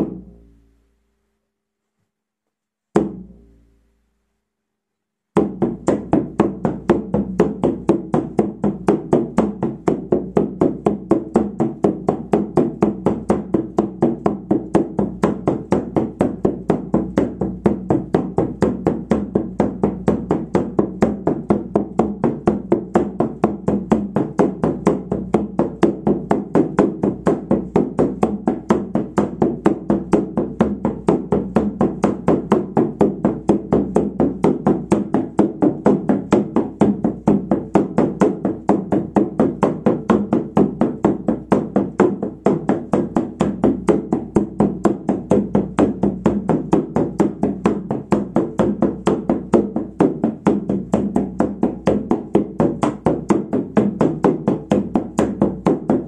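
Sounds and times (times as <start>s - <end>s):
frame drum beating: 0.0s - 0.5s, 2.9s - 3.5s, 5.4s - 56.0s.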